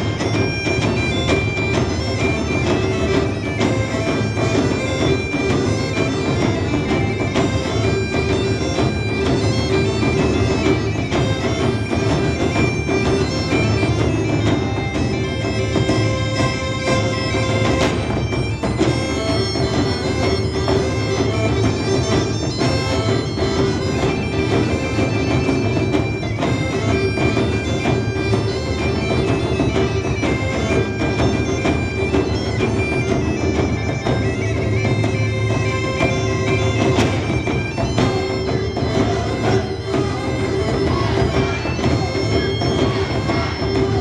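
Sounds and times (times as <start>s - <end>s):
bagpipe melody with drone: 0.0s - 44.0s.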